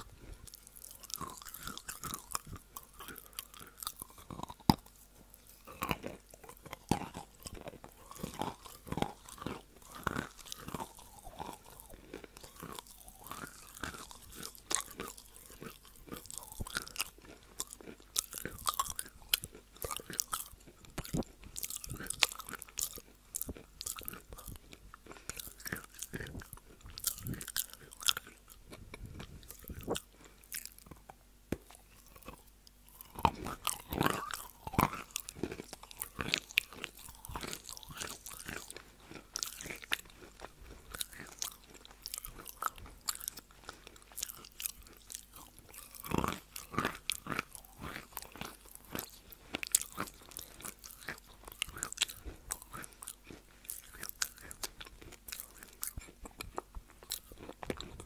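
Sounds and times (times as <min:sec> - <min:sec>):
chalk being chewed: 0:00.0 - 0:58.0.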